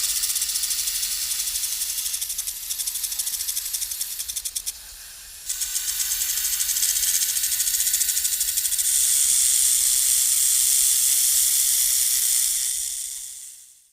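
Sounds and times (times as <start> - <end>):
snake hissing: 0.0 - 13.6.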